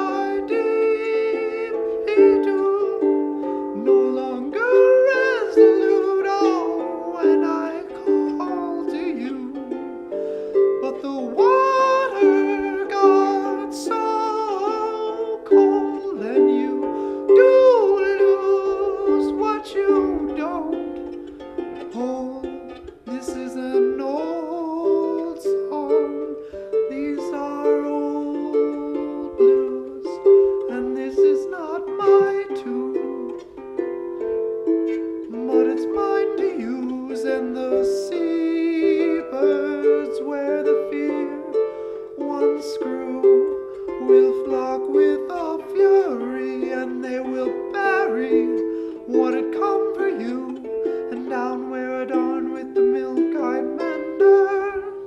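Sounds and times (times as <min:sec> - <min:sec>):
plucked strings: 0:00.0 - 0:55.0
sliding melodic line: 0:00.0 - 0:55.0.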